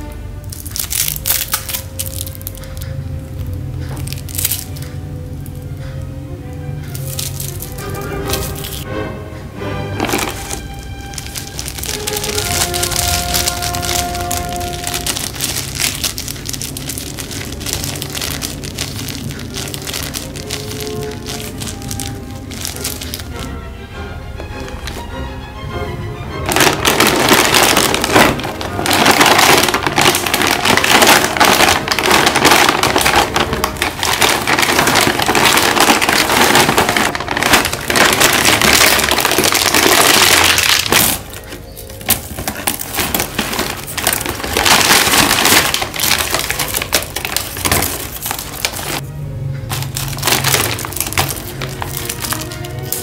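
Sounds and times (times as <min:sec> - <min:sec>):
snack bags crinkling: 0:00.0 - 0:05.9, 0:06.8 - 0:08.9, 0:10.0 - 0:23.6, 0:24.4 - 0:25.1, 0:26.4 - 0:49.0, 0:49.7 - 0:53.0.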